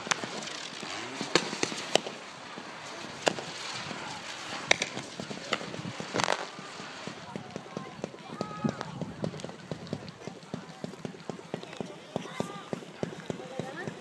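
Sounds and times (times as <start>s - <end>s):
fireworks bangs: 0.0s - 14.0s
fireworks crackling hiss: 0.0s - 14.0s.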